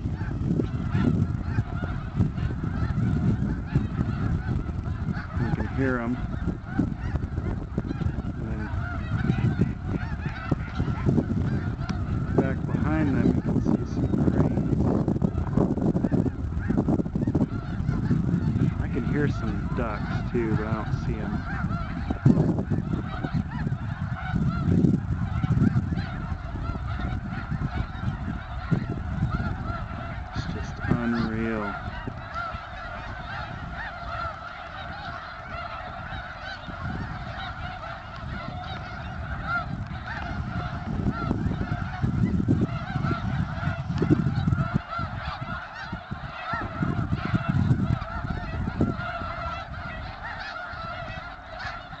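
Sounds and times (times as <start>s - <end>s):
flock of geese honking: 0.0s - 52.0s.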